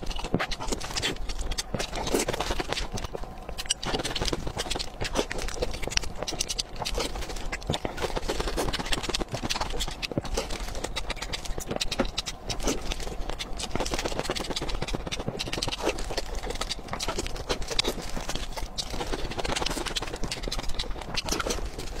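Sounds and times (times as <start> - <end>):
wet chewing and mouth clicks: 0.0 - 22.0.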